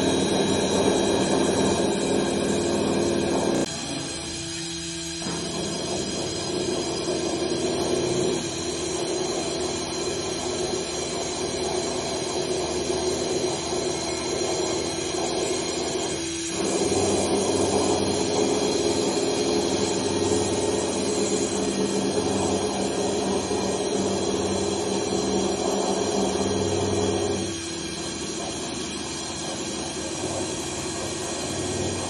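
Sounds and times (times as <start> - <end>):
cnc router hum and whine: 0.0 - 32.0.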